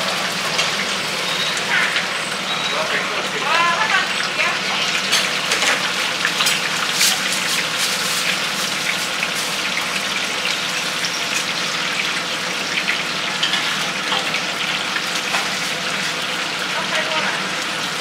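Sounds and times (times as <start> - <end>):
deep-frying sizzle with crackling pops: 0.0 - 18.0.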